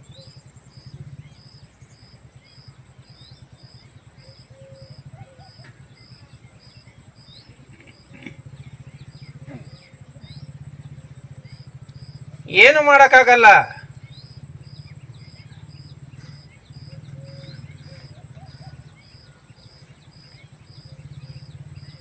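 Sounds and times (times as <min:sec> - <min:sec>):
small bird chirps: 0:00.0 - 0:12.5, 0:13.8 - 0:22.0.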